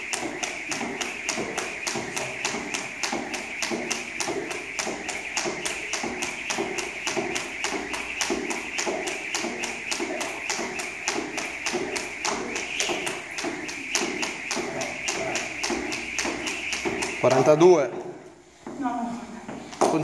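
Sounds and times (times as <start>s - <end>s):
jump rope slapping rubber floor: 0.0s - 18.3s, 19.5s - 20.0s.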